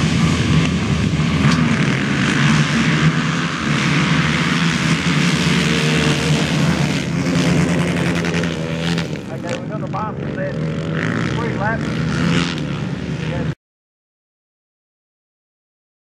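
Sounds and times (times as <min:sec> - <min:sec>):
quad bike engines revving: 0:00.0 - 0:13.6.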